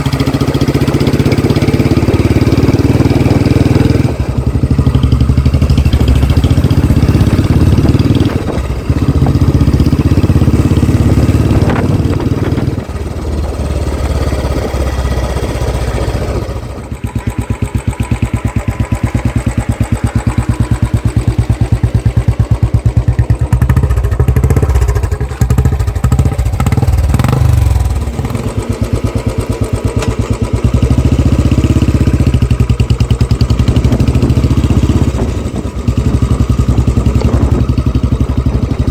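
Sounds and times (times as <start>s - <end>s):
motorcycle engine exhaust thumps: 0.0s - 15.0s, 16.2s - 38.9s.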